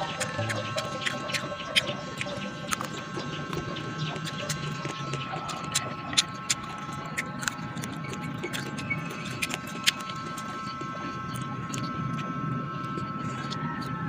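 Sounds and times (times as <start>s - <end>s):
mouth clicks: 0.0s - 13.9s
faint steady hum: 0.0s - 14.0s
person chewing crisp mango: 0.0s - 14.0s.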